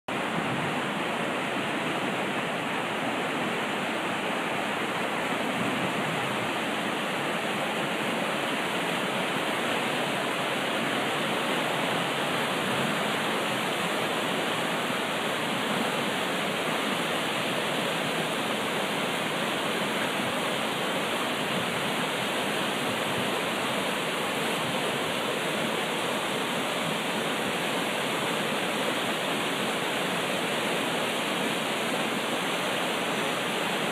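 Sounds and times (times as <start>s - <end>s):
creek rushing: 0.1s - 33.9s.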